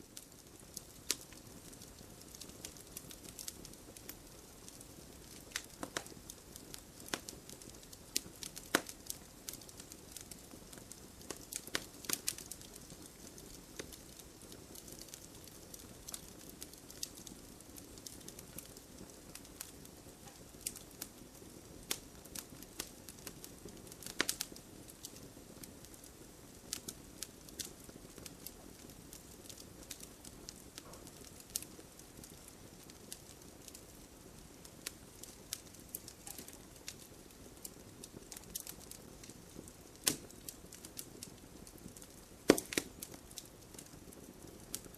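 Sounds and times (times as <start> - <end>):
campfire crackling and popping: 0.0 - 44.9
soft fire hiss: 0.0 - 44.9.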